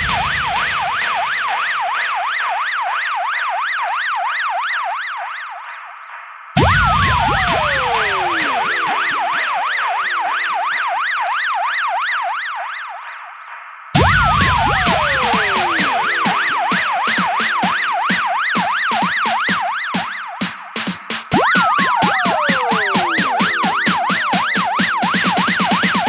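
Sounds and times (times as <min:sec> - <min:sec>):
electronic yelp siren: 0:00.0 - 0:06.0, 0:06.6 - 0:13.3, 0:14.0 - 0:26.0.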